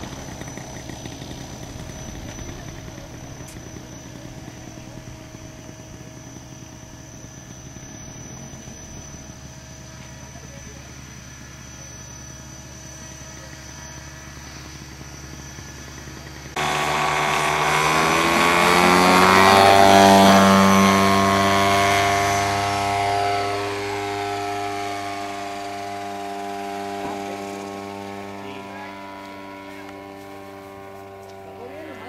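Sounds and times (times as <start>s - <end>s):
model plane engine and propeller: 0.0s - 32.0s.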